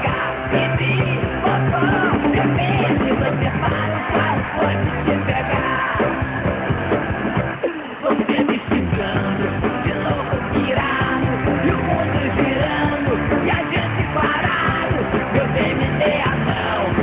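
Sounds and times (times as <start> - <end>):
rock song with male vocals: 0.0 - 17.0.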